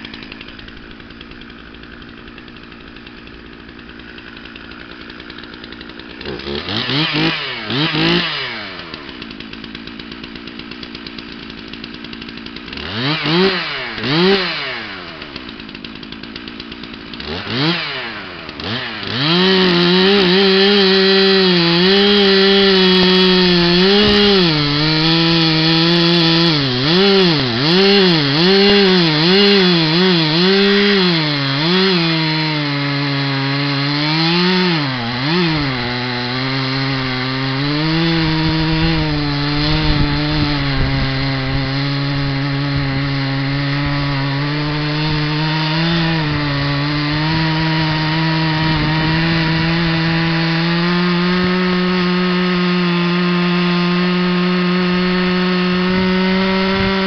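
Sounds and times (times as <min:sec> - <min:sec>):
chainsaw cutting into log: 0:00.0 - 0:57.0
chainsaw idling with throttle blips: 0:00.0 - 0:57.0.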